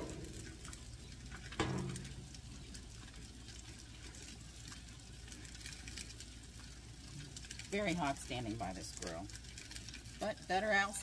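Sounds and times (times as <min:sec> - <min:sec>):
meat sizzling: 0:00.0 - 0:11.0.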